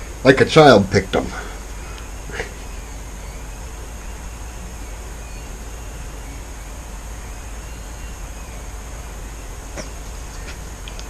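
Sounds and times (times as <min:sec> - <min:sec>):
even hiss: 0:00.0 - 0:11.0
faint high whine: 0:00.0 - 0:11.0
low hum: 0:00.0 - 0:11.0.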